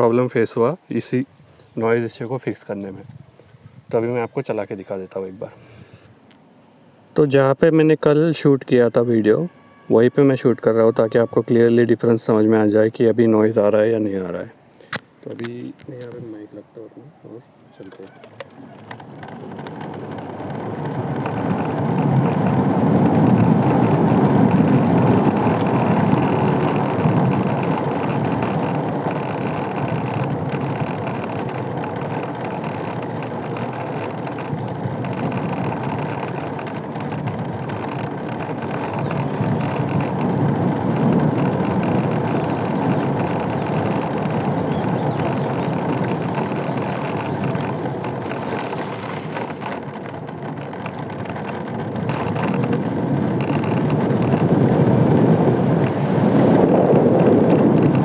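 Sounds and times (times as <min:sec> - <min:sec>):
wind and road rush: 0:00.8 - 0:07.4, 0:12.0 - 0:58.0.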